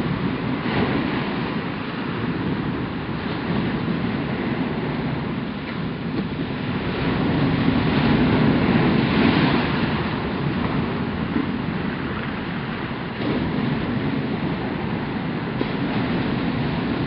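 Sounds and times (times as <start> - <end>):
surf washing over rocks: 0.0 - 17.0.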